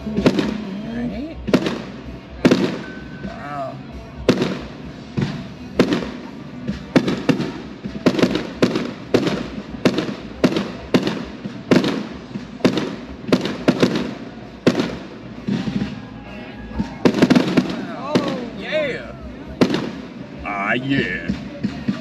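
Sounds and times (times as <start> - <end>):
fireworks bursting with echo: 0.0 - 22.0.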